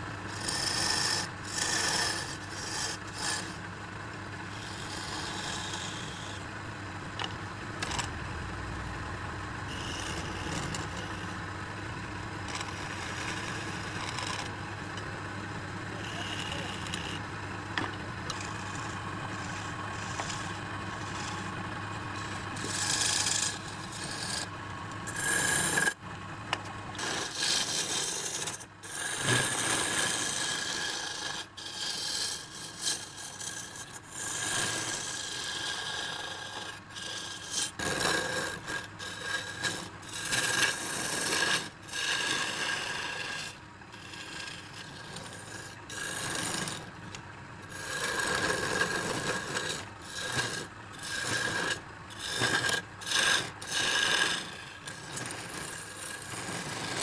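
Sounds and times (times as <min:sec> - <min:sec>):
lathe humming: 0:00.0 - 0:27.4, 0:35.6 - 0:37.8, 0:38.4 - 0:57.0
tool scraping wood on lathe: 0:00.0 - 0:57.0.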